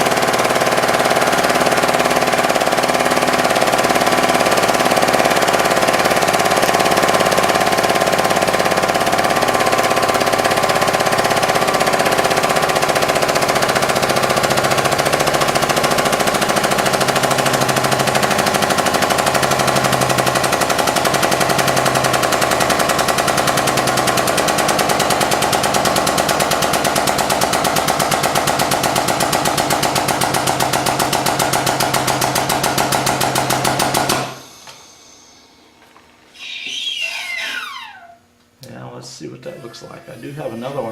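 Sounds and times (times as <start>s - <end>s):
hydraulic press droning: 0.0s - 38.5s.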